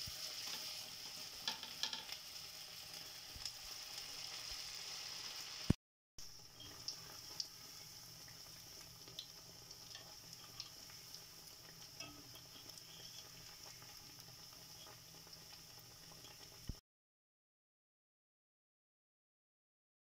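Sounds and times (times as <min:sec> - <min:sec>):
fritters sizzling in hot oil: 0:00.0 - 0:16.8.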